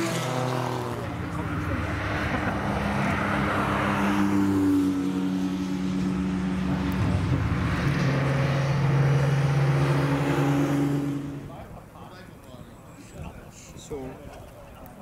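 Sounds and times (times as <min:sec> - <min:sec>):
racing car engines: 0:00.0 - 0:15.0
wind and tyre noise: 0:00.0 - 0:15.0.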